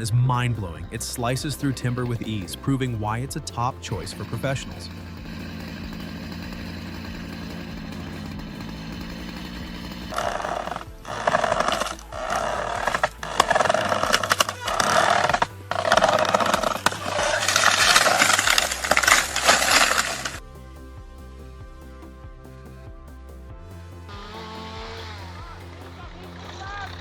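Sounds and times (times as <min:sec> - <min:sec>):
background music: 0:00.0 - 0:27.0
chainsaw cutting timber: 0:00.0 - 0:27.0.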